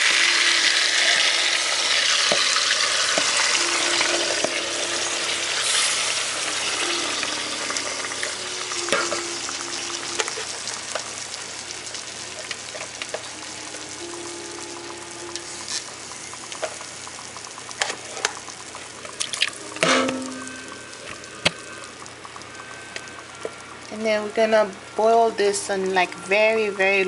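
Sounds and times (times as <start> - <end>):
fish sizzling in oil: 0.0 - 27.0.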